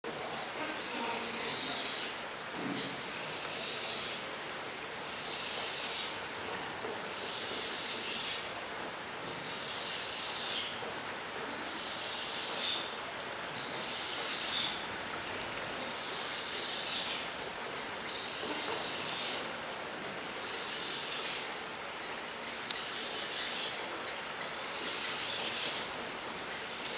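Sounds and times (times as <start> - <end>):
steady hiss: 0.1 - 26.9.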